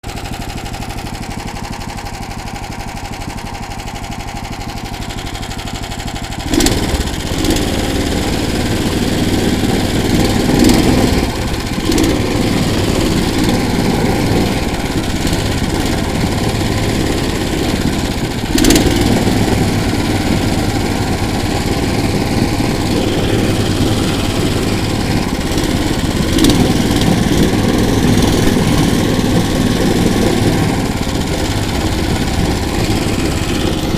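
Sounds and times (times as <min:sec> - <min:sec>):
small engine idling and revving: 0:00.0 - 0:33.9.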